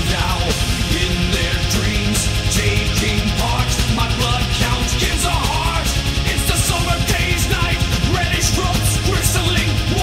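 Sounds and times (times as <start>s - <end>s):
rock song with guitar and drums: 0.0s - 10.0s.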